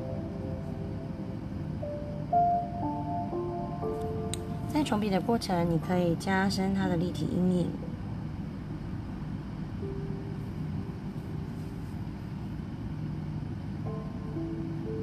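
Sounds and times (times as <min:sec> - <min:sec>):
low rumbling background noise: 0:00.0 - 0:15.0
soft ambient music: 0:00.0 - 0:15.0.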